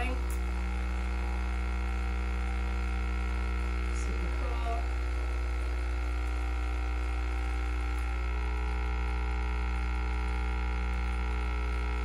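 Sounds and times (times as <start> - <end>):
coffee maker pump humming: 0.0 - 12.0.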